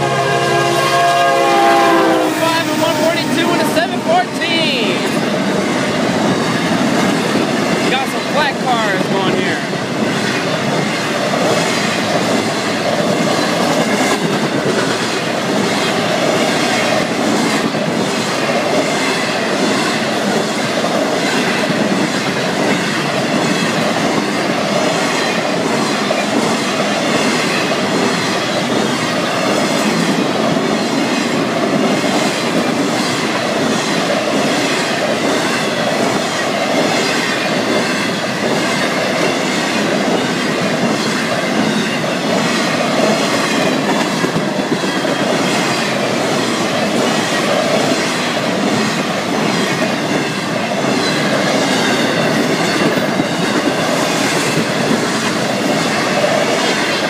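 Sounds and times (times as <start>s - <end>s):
wheels rumbling on rail: 0.0s - 57.0s
wheels clickety-clack on track: 2.3s - 57.0s.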